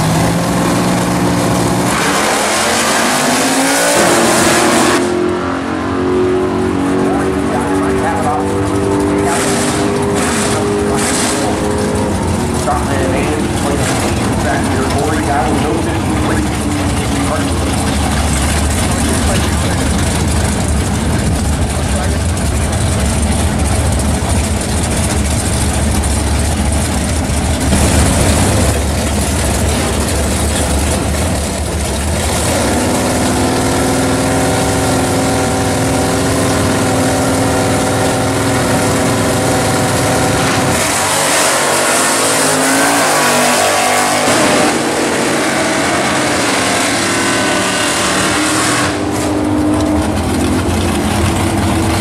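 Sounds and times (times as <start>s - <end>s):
drag car engines revving: 0.0s - 52.0s
drag car engines rumbling: 0.0s - 52.0s.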